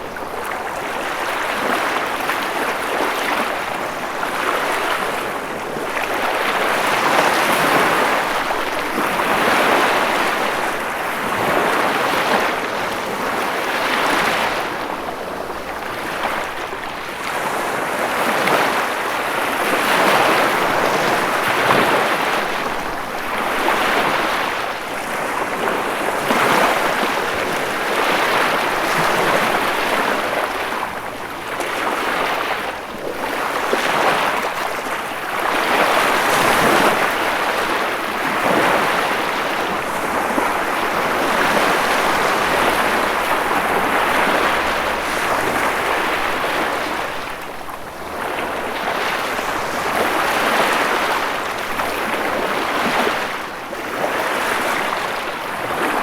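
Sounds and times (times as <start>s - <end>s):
ocean surf washing ashore: 0.0s - 56.0s.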